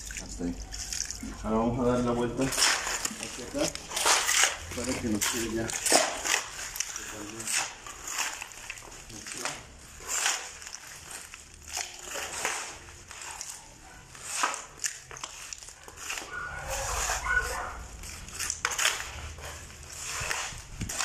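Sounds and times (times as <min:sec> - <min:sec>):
shovels scraping concrete floor: 0:00.4 - 0:21.0.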